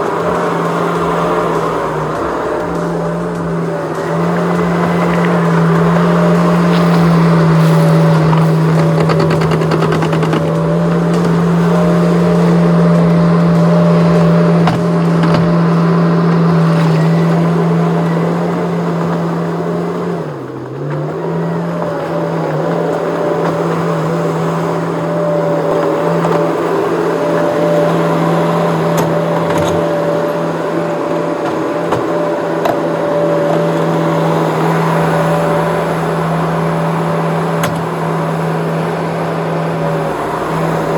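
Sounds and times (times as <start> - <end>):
skid steer engine running: 0.0 - 40.9.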